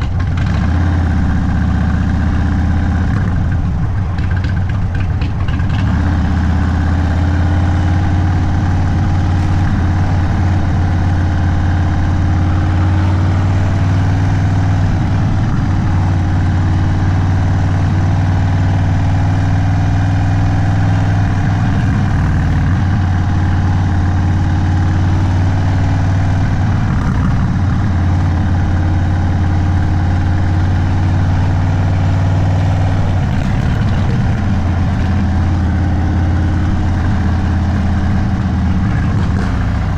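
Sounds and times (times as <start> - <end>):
motorcycle engine idling deep: 0.0 - 39.9.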